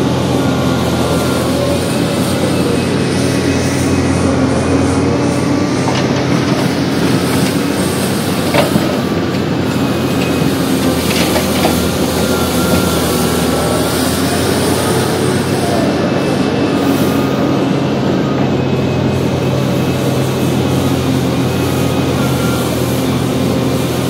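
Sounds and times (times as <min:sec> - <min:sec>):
excavator engine and hydraulics: 0:00.0 - 0:24.0.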